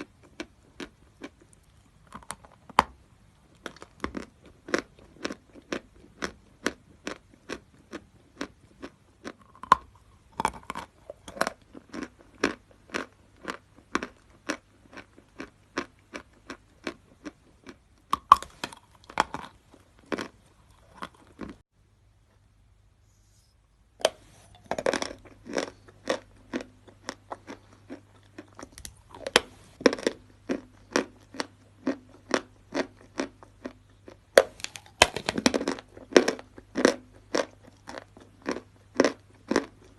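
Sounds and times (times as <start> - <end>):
person chewing chalk crunching: 0.0 - 21.6, 24.0 - 39.9.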